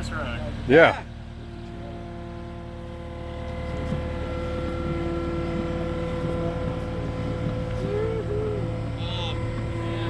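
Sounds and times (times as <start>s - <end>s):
skid steer loader engine running: 0.0s - 10.0s.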